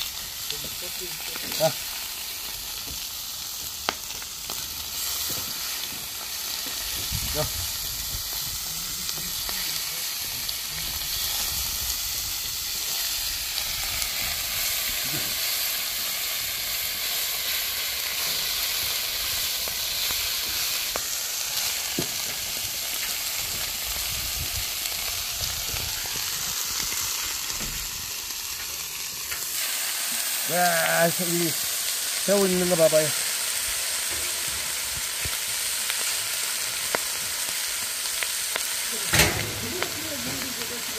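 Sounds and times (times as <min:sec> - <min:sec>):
meat sizzling on griddle: 0:00.0 - 0:40.9.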